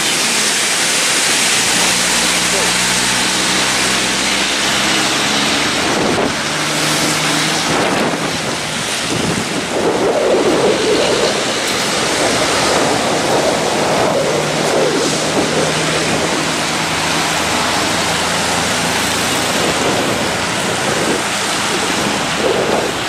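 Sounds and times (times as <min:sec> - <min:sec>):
traffic hiss on wet road: 0:00.0 - 0:23.0
truck engine droning: 0:00.0 - 0:23.0
wind buffeting microphone: 0:00.0 - 0:23.0.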